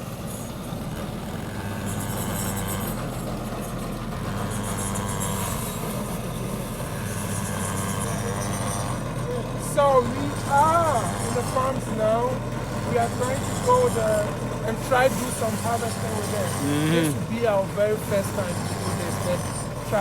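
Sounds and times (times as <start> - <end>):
engine running with low hum: 0.0 - 20.0.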